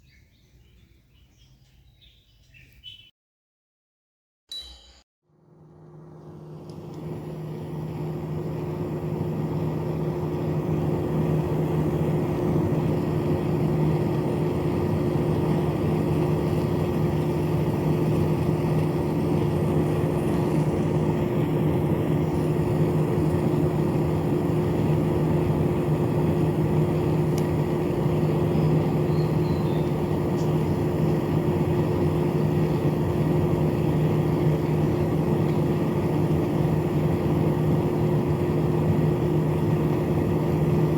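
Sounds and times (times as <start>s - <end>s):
small motor spinning fan hum: 5.3s - 40.9s.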